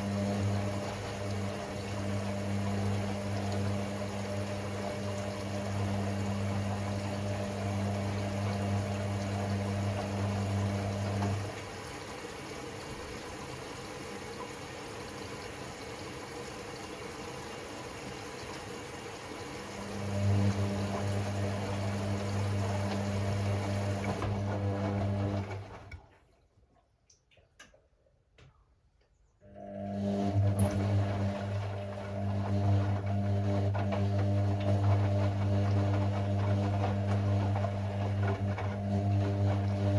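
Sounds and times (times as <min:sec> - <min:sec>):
pump electric hum: 0:00.0 - 0:26.1, 0:29.4 - 0:39.9
water moving through washing machine: 0:00.0 - 0:27.9, 0:29.4 - 0:39.9.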